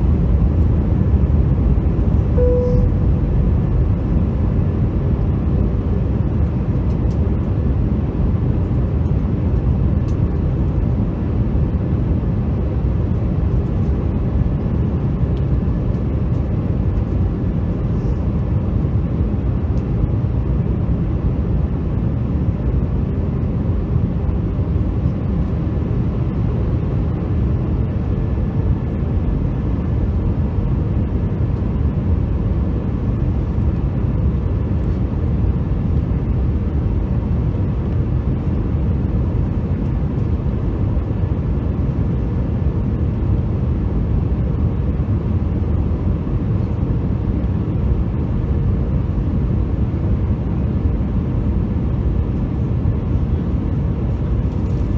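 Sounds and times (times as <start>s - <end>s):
airliner cabin rumble: 0.0s - 54.9s.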